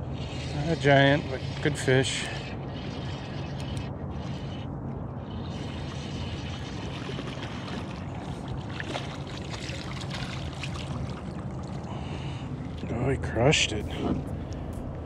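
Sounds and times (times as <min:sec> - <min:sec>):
steady low hum: 0:00.0 - 0:15.0
water lapping against boat hull: 0:00.0 - 0:15.0.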